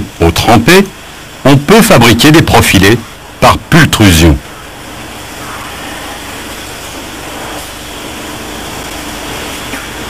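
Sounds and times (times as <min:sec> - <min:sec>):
machinery hum with hiss: 0:00.0 - 0:10.0.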